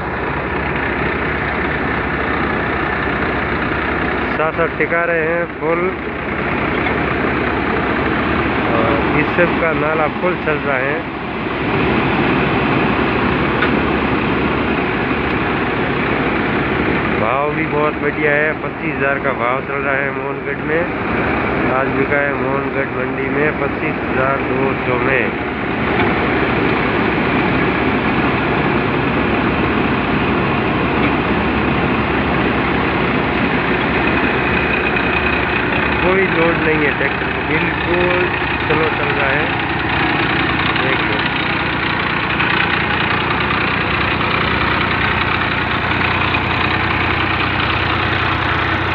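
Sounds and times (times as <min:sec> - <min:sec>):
thresher running: 0:00.0 - 0:48.9
tractor engine drone: 0:00.0 - 0:48.9.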